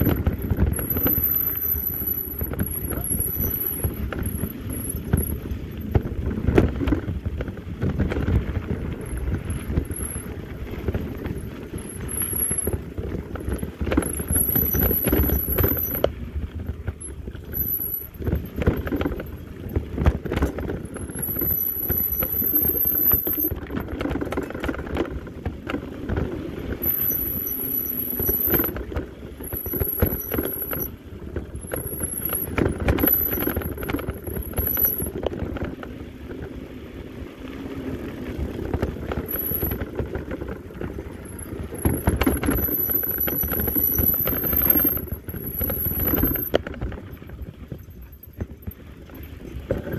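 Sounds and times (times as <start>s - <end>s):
bike knocking and rattling: 0.0s - 49.9s
bike tyres on rocky dirt trail: 0.0s - 49.9s.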